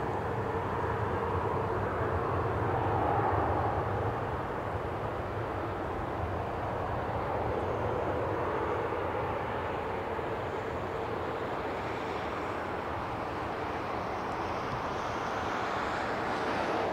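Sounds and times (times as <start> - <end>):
jet engines rumbling: 0.0 - 16.9.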